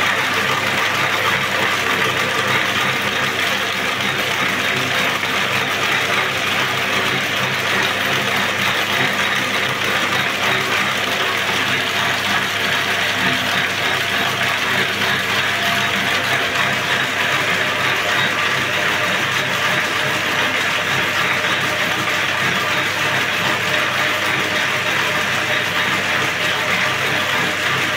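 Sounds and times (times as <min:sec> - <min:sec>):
braiding machine whirring and clattering: 0:00.0 - 0:27.9.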